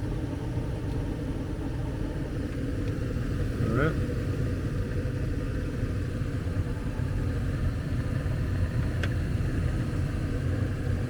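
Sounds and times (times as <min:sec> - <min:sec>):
gas furnace running: 0:00.0 - 0:11.0.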